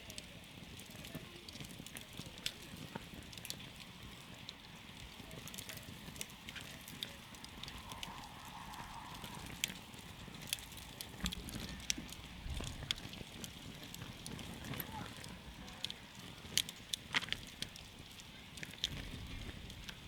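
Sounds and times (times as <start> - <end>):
burning wood popping and snapping: 0.0 - 20.0
low rumble of flames: 0.0 - 20.0.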